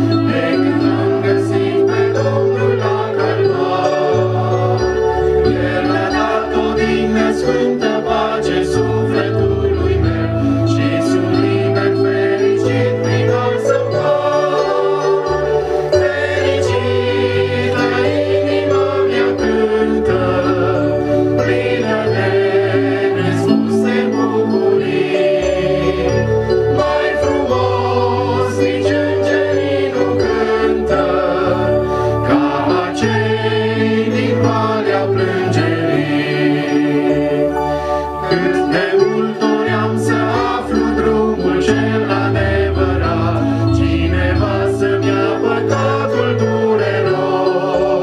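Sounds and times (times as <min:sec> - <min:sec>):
congregation singing a hymn: 0:00.0 - 0:48.0
instrumental accompaniment with bass: 0:00.0 - 0:48.0.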